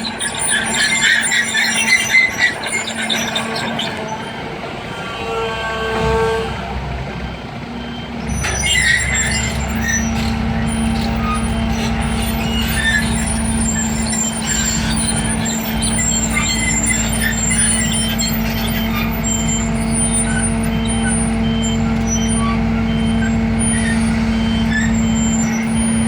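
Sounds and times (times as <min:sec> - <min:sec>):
heavy diesel engine running: 0:00.0 - 0:26.0
high squeaks: 0:00.0 - 0:26.0.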